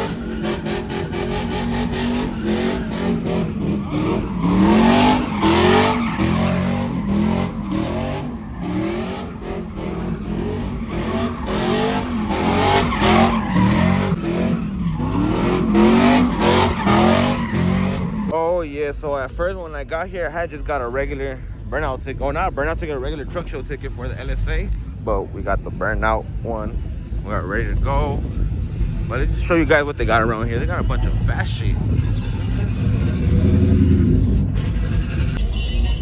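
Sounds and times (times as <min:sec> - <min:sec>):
engine revving: 0:00.0 - 0:18.4, 0:21.1 - 0:35.4
tires squealing: 0:00.0 - 0:36.0.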